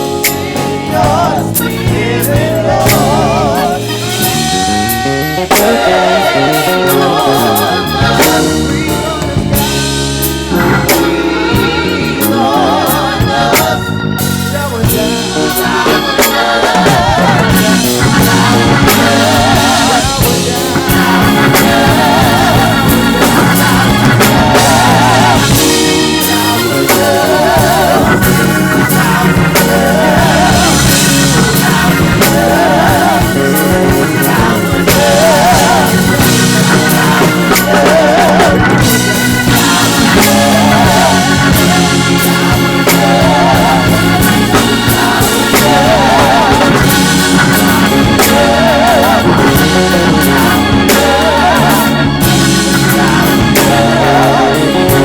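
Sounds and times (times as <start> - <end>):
drum kit hits: 0.0 - 55.0
gospel church band playing: 0.0 - 55.0.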